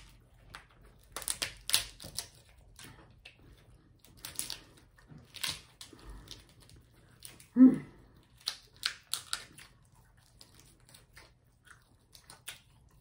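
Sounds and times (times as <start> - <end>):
lobster shells cracking: 0.0 - 3.4, 4.0 - 7.5, 8.2 - 13.0.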